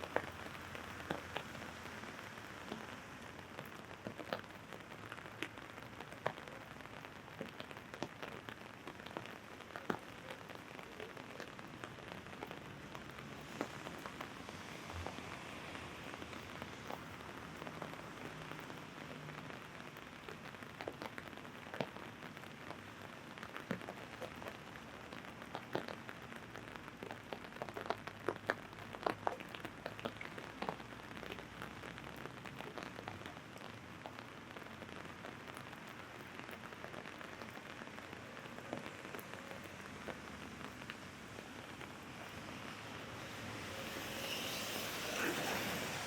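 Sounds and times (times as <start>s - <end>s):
rain drumming on an umbrella: 0.0s - 46.0s.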